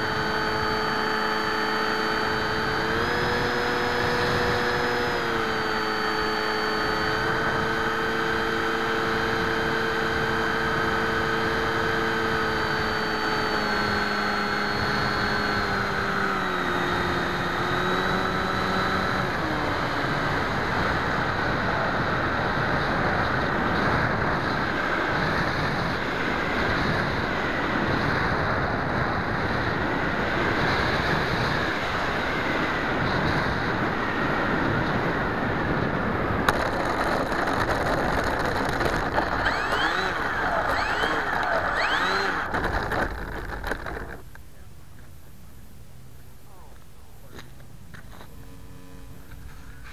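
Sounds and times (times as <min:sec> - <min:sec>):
electric motor propeller whine: 0:00.0 - 0:44.4, 0:47.6 - 0:49.9
wind rush over microphone: 0:02.2 - 0:44.2.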